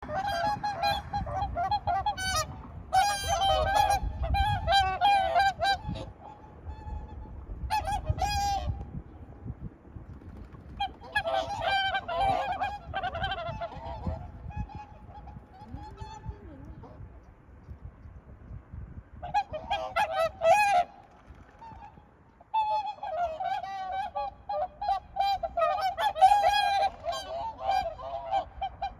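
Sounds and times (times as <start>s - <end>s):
swans calling: 0.0s - 8.7s, 10.7s - 17.0s, 19.2s - 28.9s.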